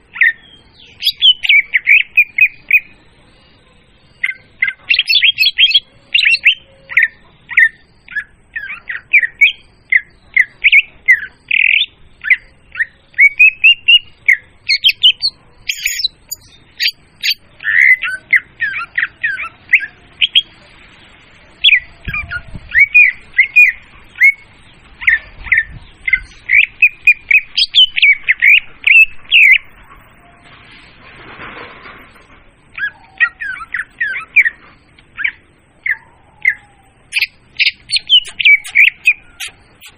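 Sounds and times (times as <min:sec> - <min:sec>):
bird whistling and chattering: 0:00.2 - 0:02.9, 0:04.2 - 0:20.5, 0:21.6 - 0:24.4, 0:25.0 - 0:29.7, 0:32.7 - 0:34.6, 0:35.2 - 0:39.9.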